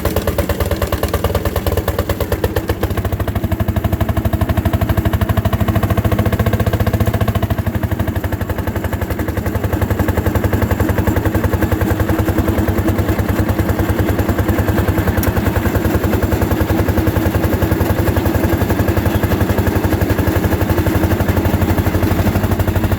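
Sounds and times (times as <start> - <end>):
two-stroke engine running: 0.0 - 22.9.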